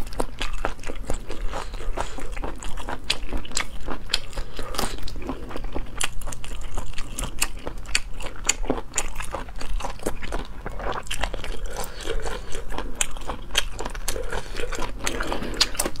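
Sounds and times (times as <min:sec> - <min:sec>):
wet chewing and mouth clicks: 0:00.0 - 0:16.0.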